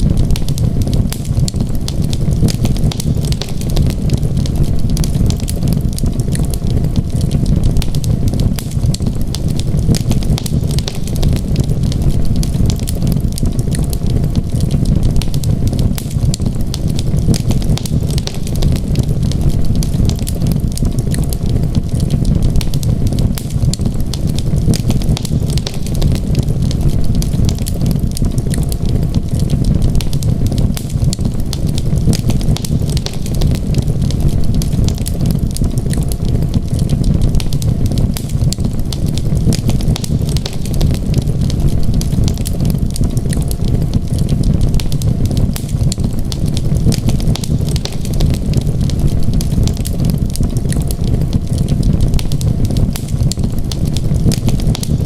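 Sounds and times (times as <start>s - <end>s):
low rumble of storm wind: 0.0s - 55.0s
wood fire crackling: 0.0s - 55.0s.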